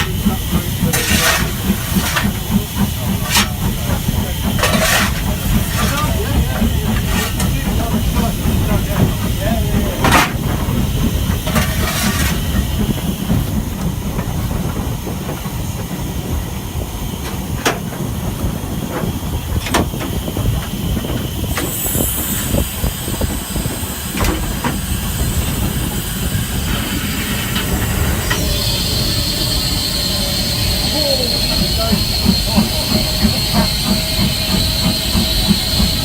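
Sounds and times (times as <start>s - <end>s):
high steam hiss: 0.0s - 36.0s
steam locomotive rumbling: 0.0s - 36.0s.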